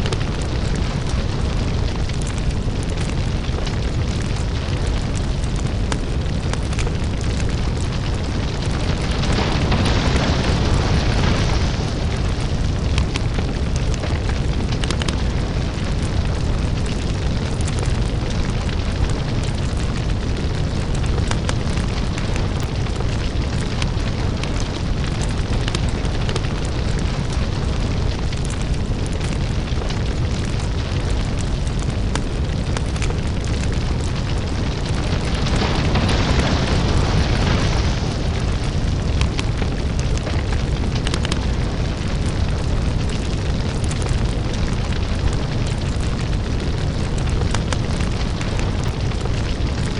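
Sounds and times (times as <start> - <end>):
deep rumble: 0.0 - 49.9
lava crackling and popping: 0.0 - 49.9.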